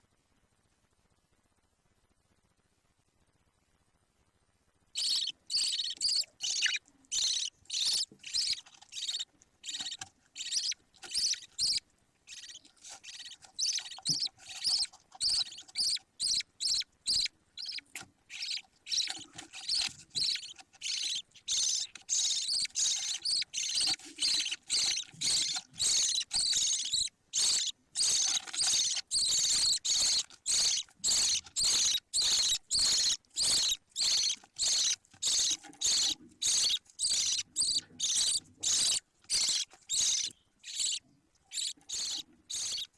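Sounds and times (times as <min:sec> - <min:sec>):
budgerigar chick chirping: 0:05.0 - 0:42.9.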